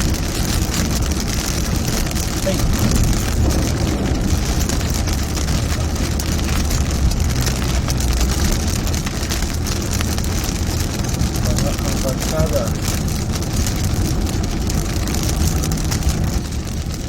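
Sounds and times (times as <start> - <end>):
car driving rumble: 0.0 - 17.0
heavy rain drumming on car roof: 0.0 - 17.0.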